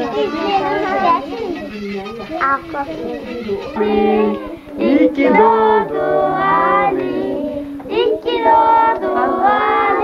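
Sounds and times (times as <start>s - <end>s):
children and women singing: 0.0s - 10.0s.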